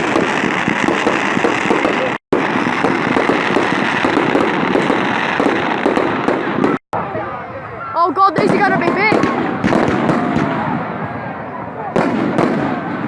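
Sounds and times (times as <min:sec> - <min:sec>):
fireworks crackling: 0:00.0 - 0:07.4, 0:08.1 - 0:13.0.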